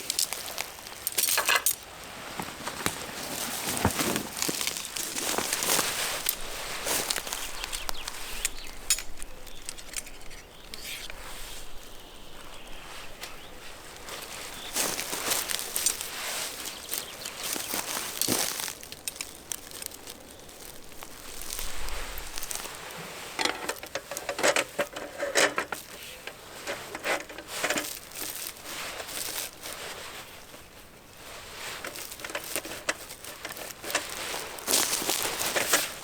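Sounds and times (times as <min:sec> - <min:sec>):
rustling and crinkling: 0:00.0 - 0:36.0.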